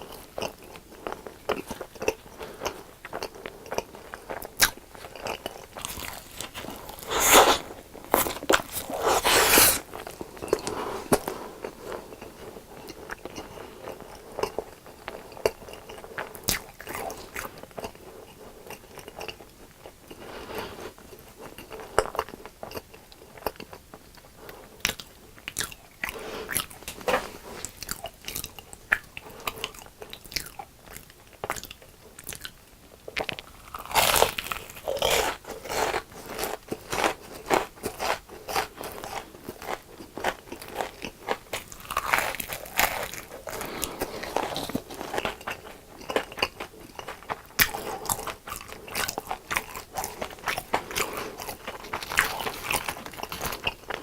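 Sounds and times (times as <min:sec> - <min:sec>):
crunching fried food: 0:00.0 - 0:54.0.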